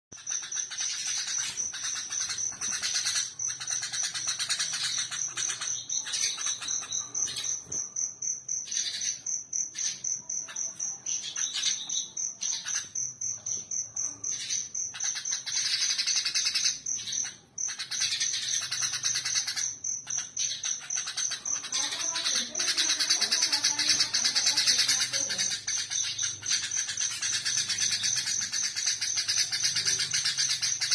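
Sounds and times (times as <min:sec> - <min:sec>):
bulbul singing chirps: 0:00.1 - 0:30.9.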